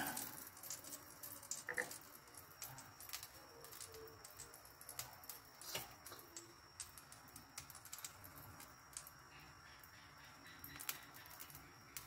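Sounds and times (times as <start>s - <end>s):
wok crackling and ticking: 0.0s - 12.0s.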